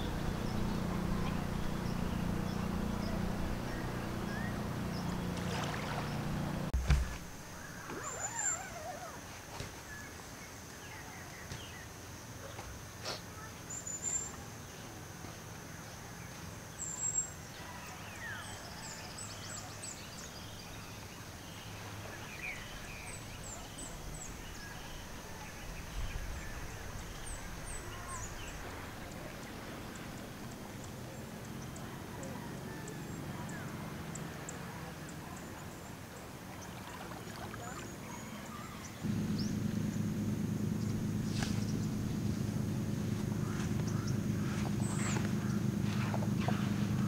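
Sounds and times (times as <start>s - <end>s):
birds chirping: 0.0s - 9.2s, 16.8s - 47.0s
faint low hum: 0.0s - 9.2s, 16.8s - 47.0s.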